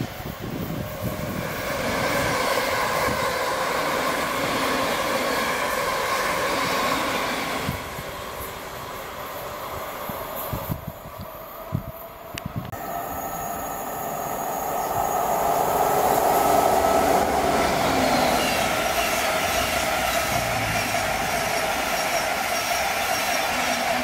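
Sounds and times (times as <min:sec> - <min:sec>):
passenger train rushing past: 0:00.0 - 0:24.0.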